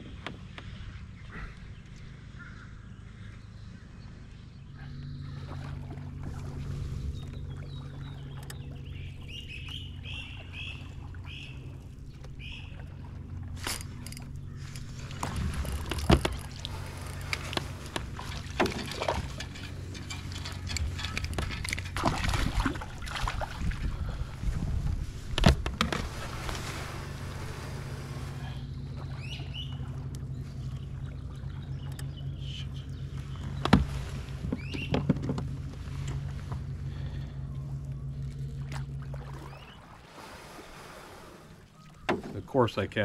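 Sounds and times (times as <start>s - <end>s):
low steady hum: 0.0s - 43.0s
bird calls: 0.1s - 22.0s, 27.7s - 40.8s, 41.4s - 42.7s.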